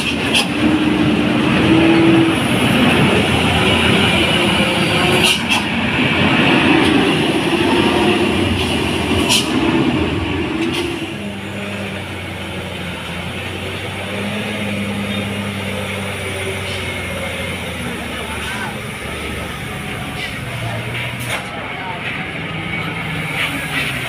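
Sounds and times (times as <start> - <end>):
truck diesel engine running hard: 0.0 - 24.0.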